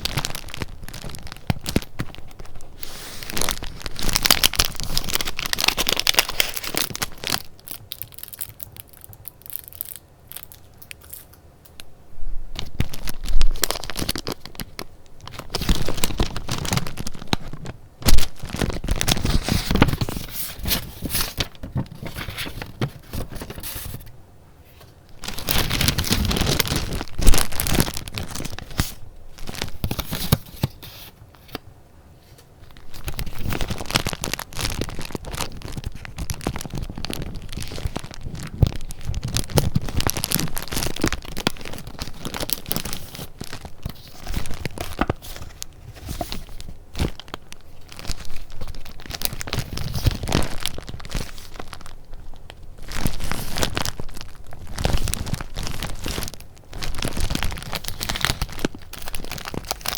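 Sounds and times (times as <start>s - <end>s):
paper crinkling and rustling: 0.0s - 11.4s, 12.6s - 59.9s.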